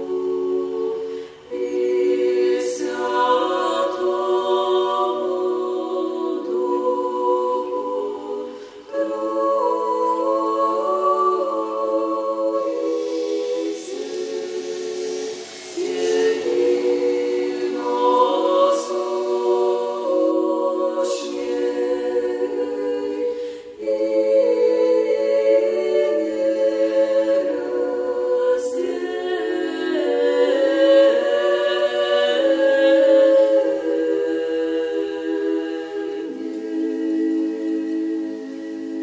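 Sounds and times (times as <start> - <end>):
unaccompanied choir singing: 0.0 - 39.0.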